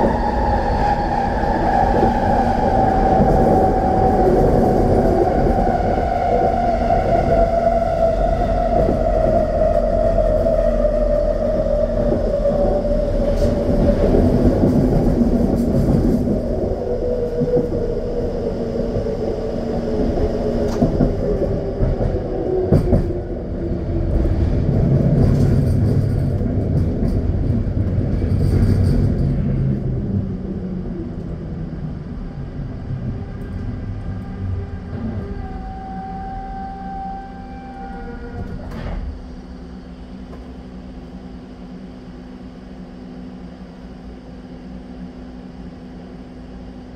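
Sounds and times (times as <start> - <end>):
train motor whine: 0.0 - 46.6
wheels rumbling on rail: 0.0 - 46.9.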